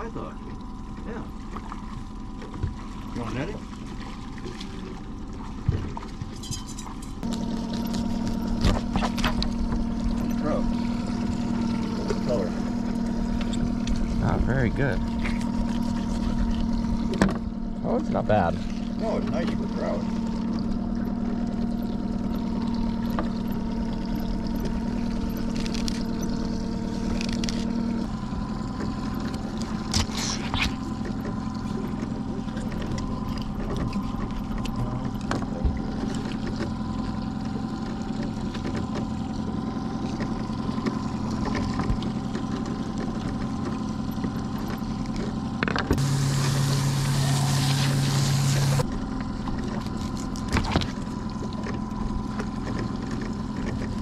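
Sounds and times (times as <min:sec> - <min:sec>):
outboard motor humming: 0:00.0 - 0:54.0.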